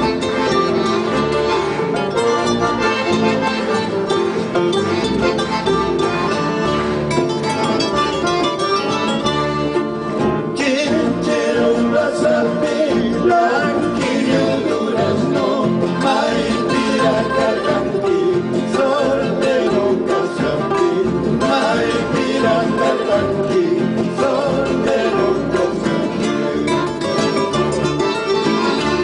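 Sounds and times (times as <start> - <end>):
classical guitars playing folk tune: 0.0 - 29.0.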